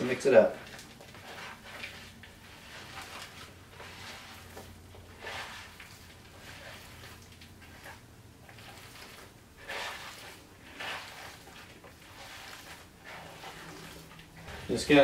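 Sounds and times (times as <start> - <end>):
hands squelching meat mix: 0.0 - 15.0.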